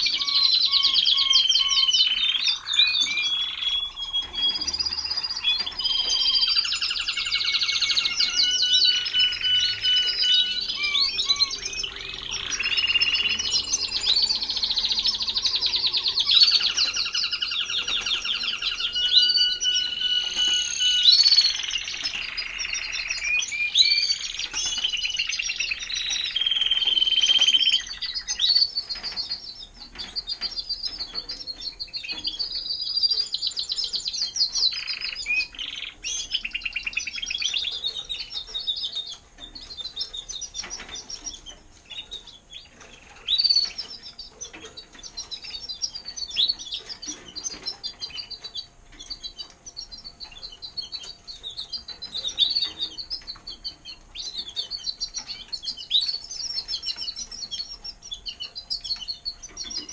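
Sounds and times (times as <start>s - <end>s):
canaries trilling and chirping: 0.0s - 59.9s.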